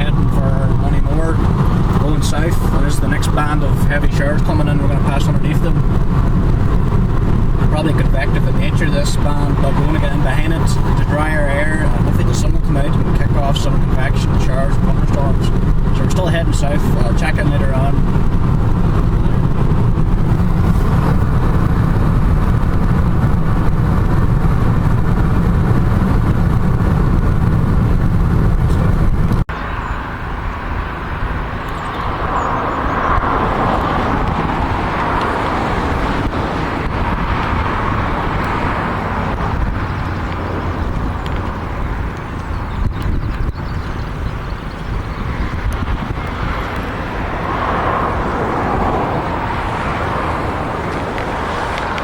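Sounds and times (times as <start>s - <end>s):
low road rumble: 0.0s - 52.0s.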